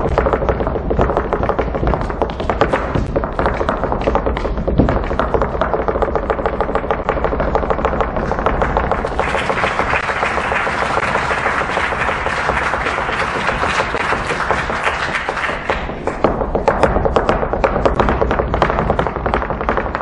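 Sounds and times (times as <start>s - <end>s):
flamenco footwork stamps: 0.0s - 20.0s.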